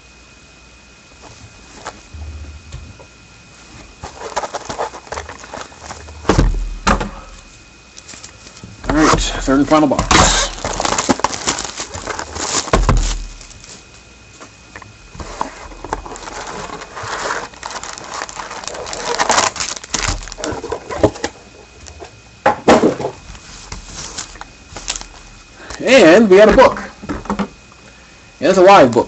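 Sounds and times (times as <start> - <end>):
cellophane and cardboard crinkling: 1.2 - 6.7, 7.3 - 22.1, 23.2 - 26.7.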